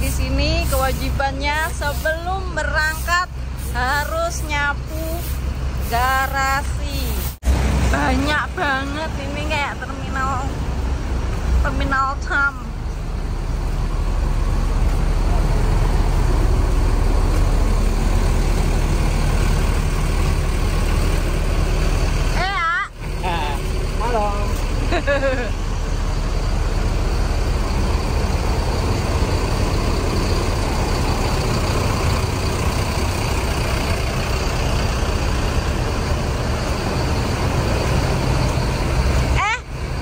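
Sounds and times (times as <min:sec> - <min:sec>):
diesel bus engines idling: 0:00.0 - 0:40.0.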